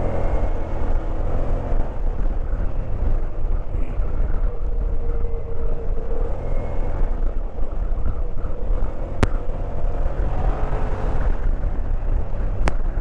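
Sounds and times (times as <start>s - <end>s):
faint motorcycle engine: 0.0s - 13.0s
low road rumble: 0.0s - 13.0s
wind rush over microphone: 0.0s - 13.0s.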